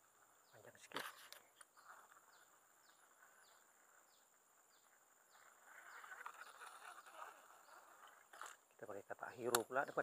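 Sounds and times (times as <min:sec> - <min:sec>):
soft rustle: 0:00.8 - 0:08.8.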